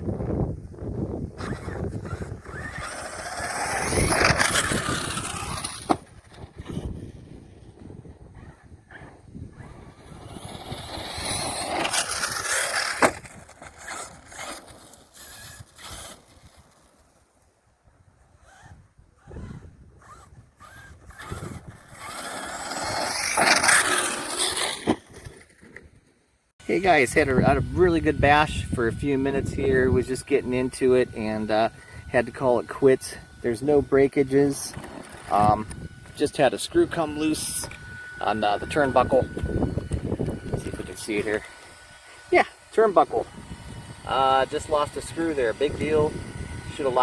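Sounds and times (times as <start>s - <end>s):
rough tyre and drivetrain noise: 1.0s - 17.4s, 18.2s - 26.0s, 26.6s - 47.0s
electric motor whining: 1.2s - 17.1s, 18.2s - 25.4s, 27.1s - 47.0s.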